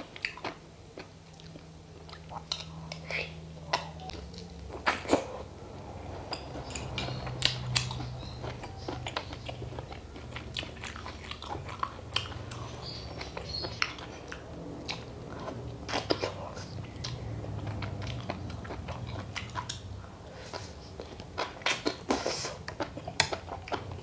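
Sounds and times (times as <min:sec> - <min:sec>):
chewing with wet clicks: 0:00.0 - 0:24.0
faint low hum: 0:00.0 - 0:24.0.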